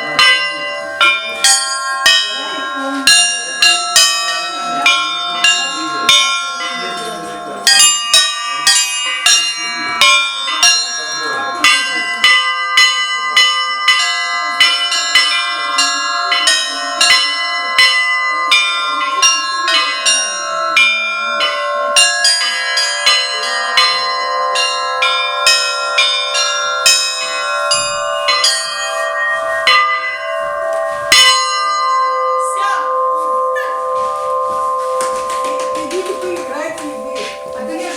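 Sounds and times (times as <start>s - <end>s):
church bells pealing: 0.0s - 37.9s
hum of large bells: 0.0s - 37.9s.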